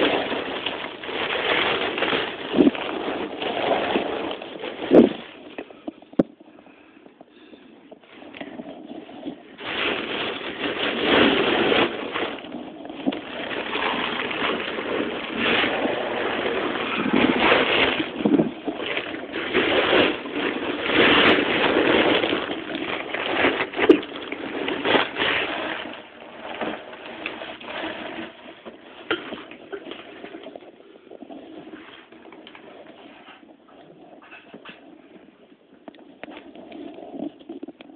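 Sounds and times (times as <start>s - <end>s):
rustling and scraping of crawling: 0.0s - 37.9s.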